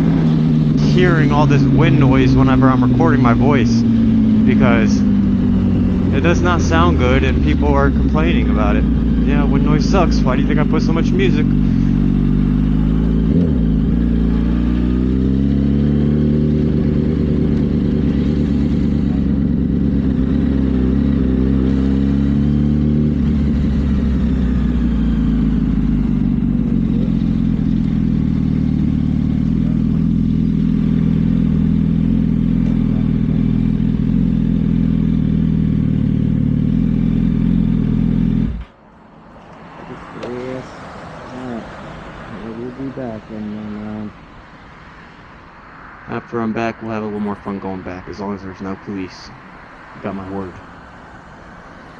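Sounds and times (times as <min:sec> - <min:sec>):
motorcycle engine accelerating: 0:00.0 - 0:50.6.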